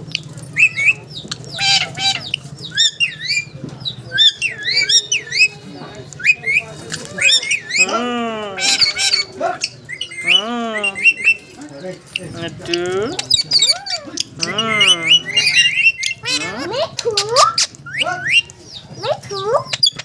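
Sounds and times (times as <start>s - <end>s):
parrot squawking and chirping: 0.0s - 5.6s, 6.2s - 8.0s, 8.6s - 20.0s.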